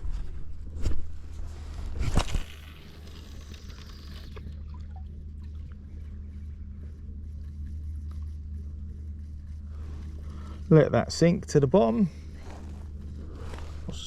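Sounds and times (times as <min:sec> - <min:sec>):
low hum: 0:00.0 - 0:14.0
water sloshing around boat: 0:02.7 - 0:14.0.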